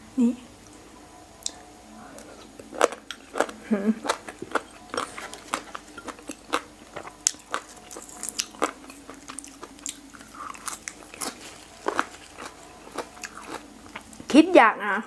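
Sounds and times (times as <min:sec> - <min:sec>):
chewing crunchy cartilage: 0:01.4 - 0:14.3.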